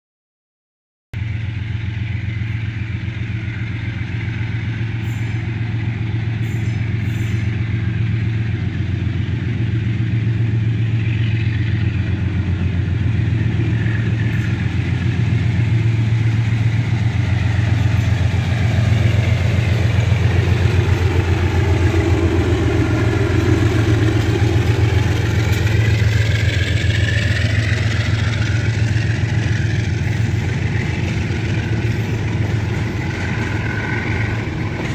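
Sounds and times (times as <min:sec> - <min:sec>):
diesel locomotive engine drone: 0:01.2 - 0:34.9
train wheels squealing: 0:01.3 - 0:34.9.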